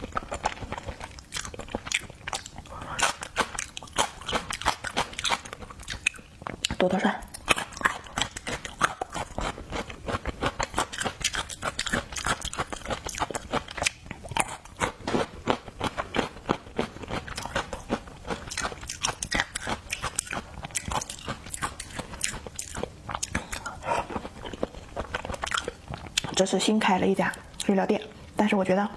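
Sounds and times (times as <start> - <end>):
person chewing crunchy food: 0.0 - 28.3.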